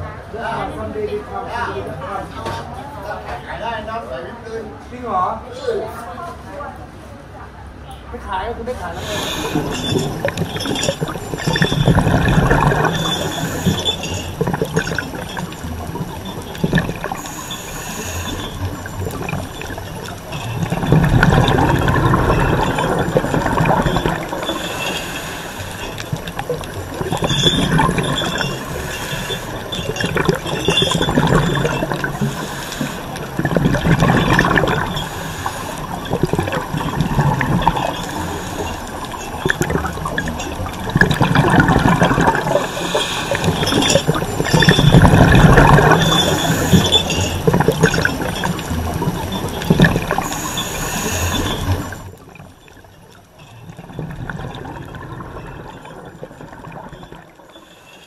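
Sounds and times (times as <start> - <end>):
underwater water noise: 8.8 - 58.0
water bubbling: 9.0 - 58.0.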